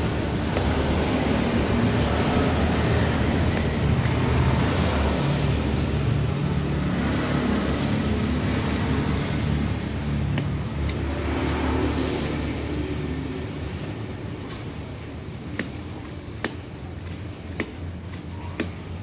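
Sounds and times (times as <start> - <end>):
passing vehicle rumble: 0.0 - 15.3.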